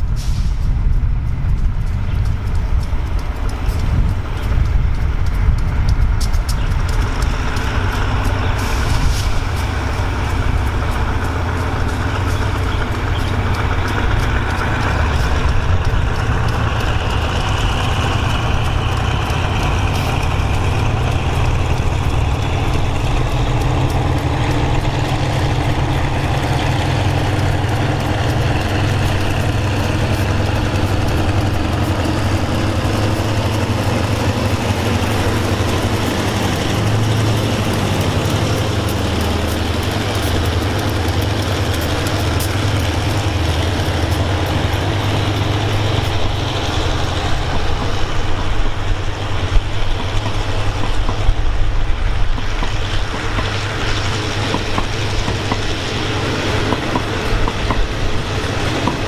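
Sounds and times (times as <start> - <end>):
diesel train engine drone: 0.0 - 59.0
train running noise: 0.0 - 59.0.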